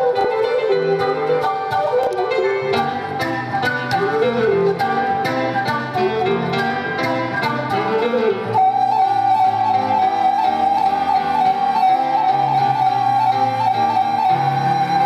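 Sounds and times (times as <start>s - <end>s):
piano chords and bass notes: 0.0s - 15.0s.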